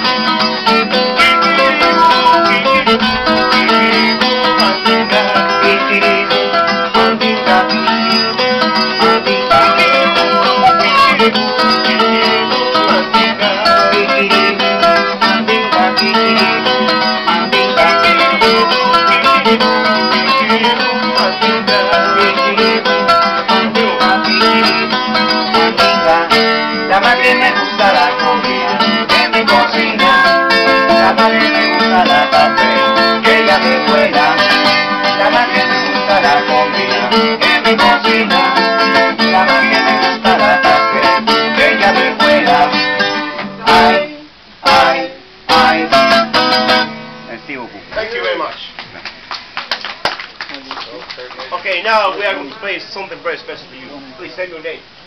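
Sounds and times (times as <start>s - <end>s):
two acoustic guitars playing: 0.0s - 49.6s, 50.9s - 55.0s.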